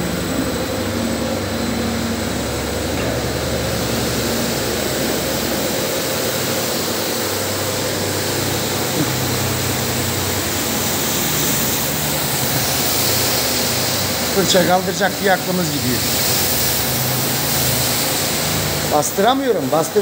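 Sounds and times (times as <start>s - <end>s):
carpet washing machine whirring: 0.0s - 20.0s.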